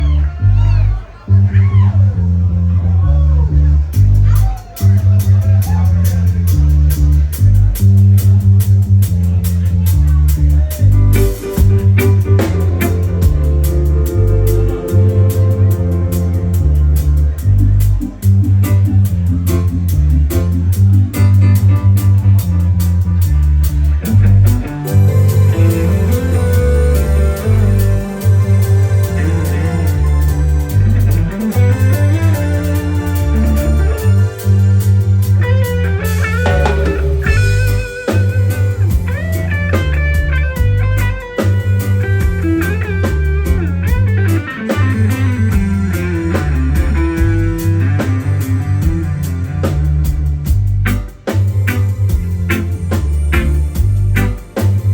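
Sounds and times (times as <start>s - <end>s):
live band instrumental: 0.0s - 54.9s
prominent bass line: 0.0s - 54.9s
electric guitar lead: 9.8s - 54.9s.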